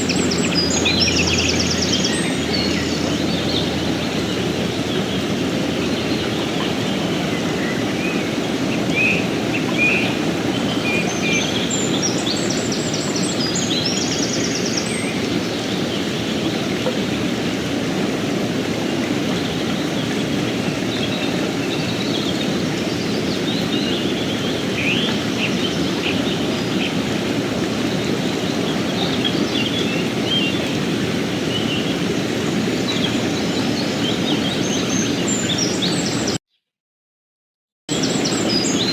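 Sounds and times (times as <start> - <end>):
birds chirping: 0.0 - 17.5, 18.7 - 36.4
river rushing over rocks: 0.0 - 36.4.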